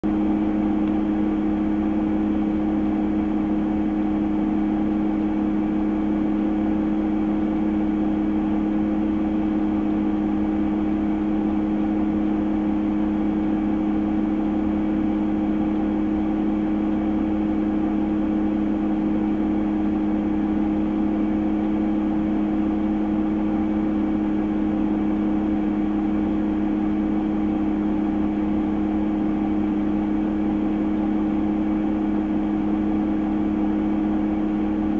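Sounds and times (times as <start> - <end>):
vehicle engine running steadily: 0.0 - 34.9.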